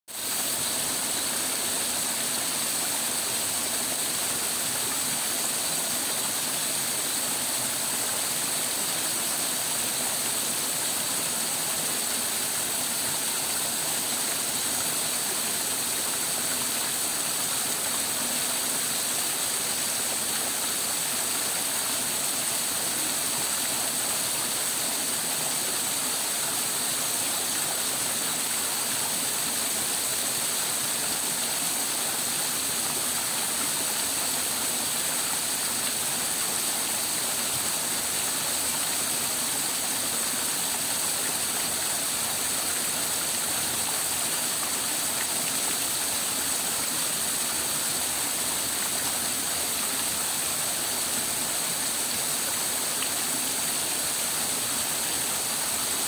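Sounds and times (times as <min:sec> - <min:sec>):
waterfall splashing over stone: 0:00.2 - 0:56.0.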